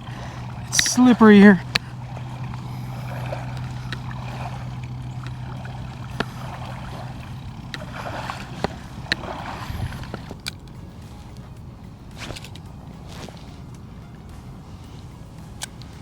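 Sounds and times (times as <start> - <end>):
creek water flowing: 0.0 - 16.0
low hum: 0.0 - 16.0.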